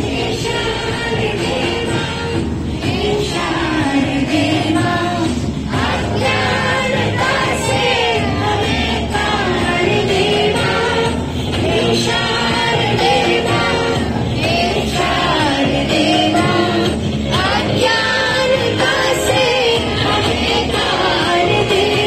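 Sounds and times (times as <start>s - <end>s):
children singing together: 0.0s - 22.0s.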